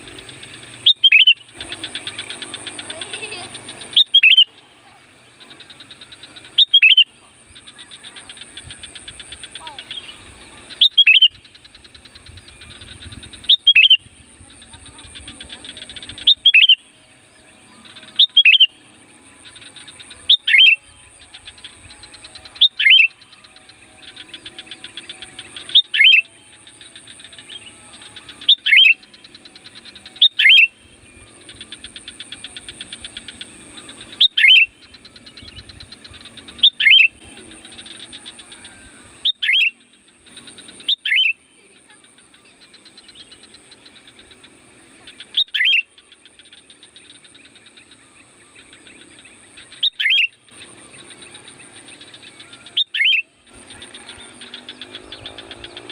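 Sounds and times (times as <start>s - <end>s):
bulbul calling: 0.0s - 55.9s
faint rapid chatter: 0.0s - 55.9s.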